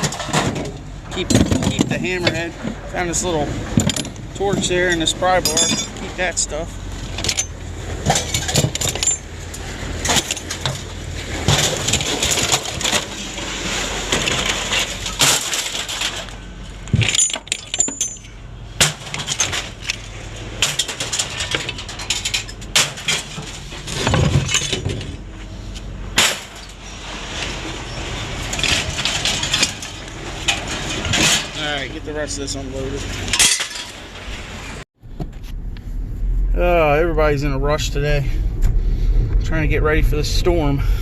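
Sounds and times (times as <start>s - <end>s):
scrap metal clanking: 0.0s - 35.5s
low steady hum: 0.0s - 41.0s.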